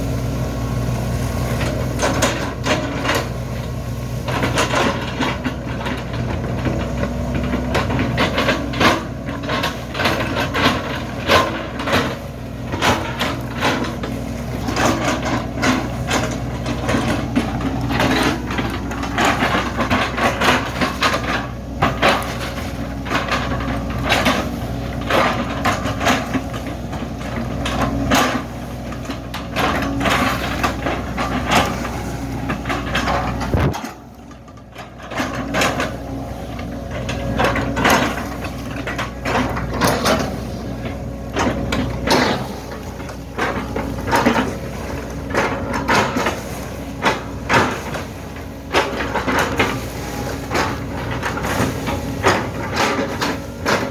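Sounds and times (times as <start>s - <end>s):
excavator diesel engine: 0.0s - 53.9s.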